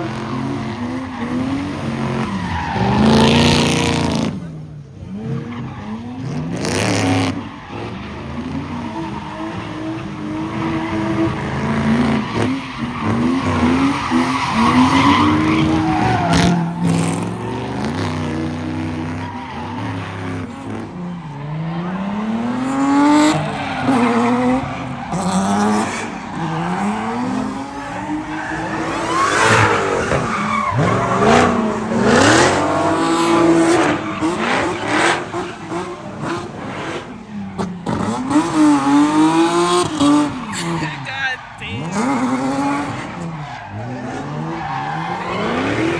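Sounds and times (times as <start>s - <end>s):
car engines revving: 0.0s - 45.9s
tyres squealing and skidding: 0.0s - 45.9s.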